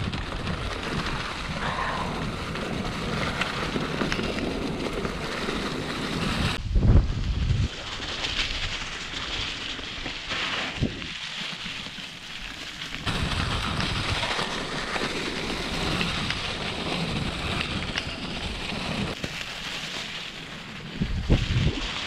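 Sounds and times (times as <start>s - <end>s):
bike tyres crackling on dry leaves: 0.0s - 22.0s.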